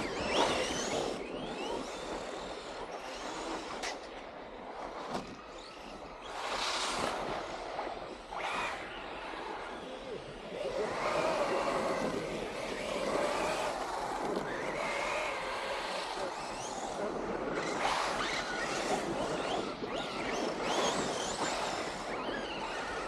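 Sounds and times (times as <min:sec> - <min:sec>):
model car motor whining: 0:00.0 - 0:23.0.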